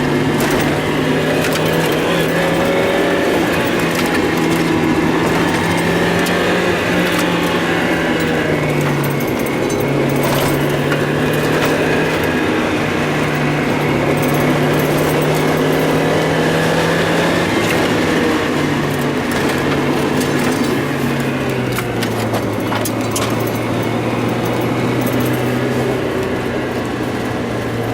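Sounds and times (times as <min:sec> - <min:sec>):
car engine wavering: 0:00.0 - 0:27.9.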